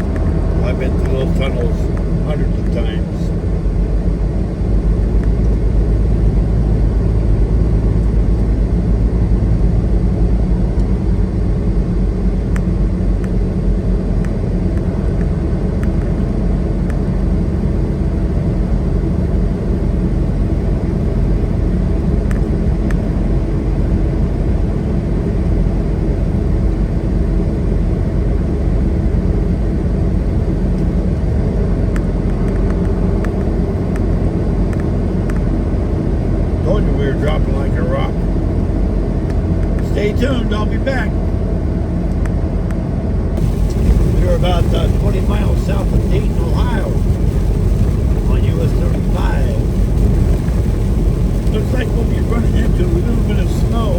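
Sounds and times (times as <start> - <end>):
truck diesel engine rumble: 0.0 - 53.9.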